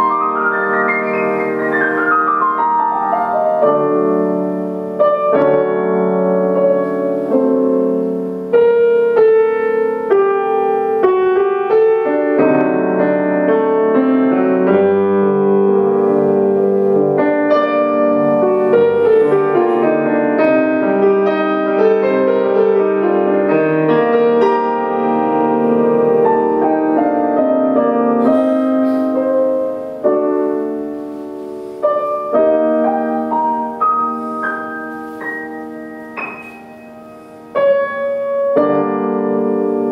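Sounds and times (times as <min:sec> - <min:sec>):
solo grand piano: 0:00.0 - 0:39.9.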